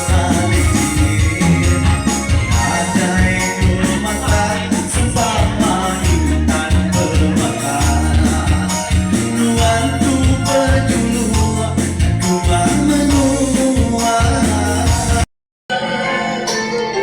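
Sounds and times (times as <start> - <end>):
band playing instrumental: 0.0 - 15.2.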